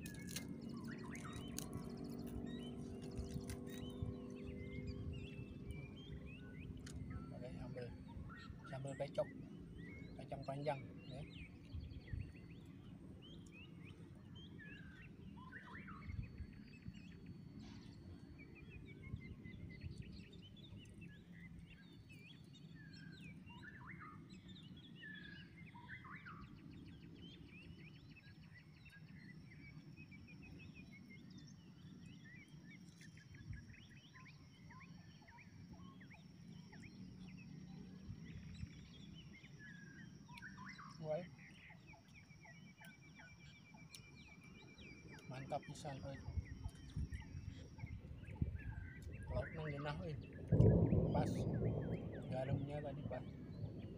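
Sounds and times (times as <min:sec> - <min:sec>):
faint bird chirps: 0:00.0 - 0:53.9.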